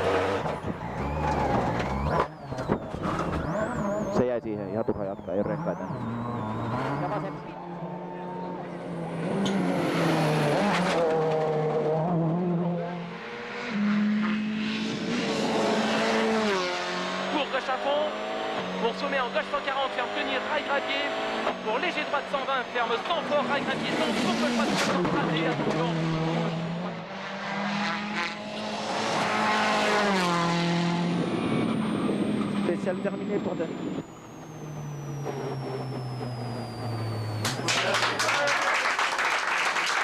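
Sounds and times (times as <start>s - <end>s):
rally car engine at high revs: 0.0s - 38.4s.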